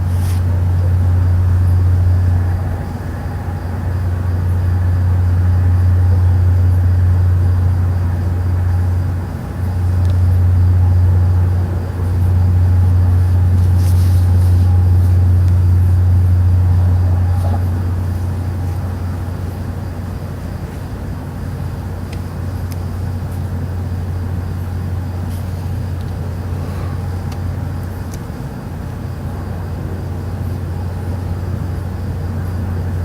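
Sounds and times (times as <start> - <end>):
deep droning hum: 0.0 - 33.0.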